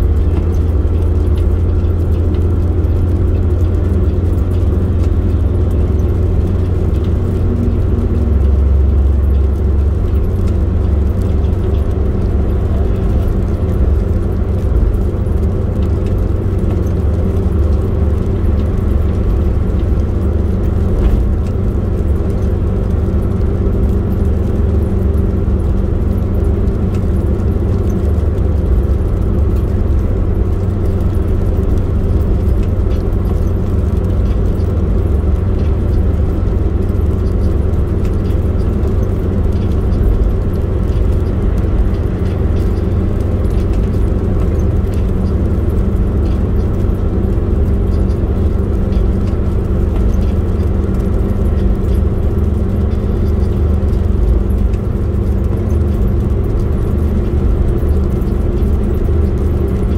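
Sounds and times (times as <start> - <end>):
road noise: 0.0 - 59.9
vehicle engine rumble: 0.0 - 59.9.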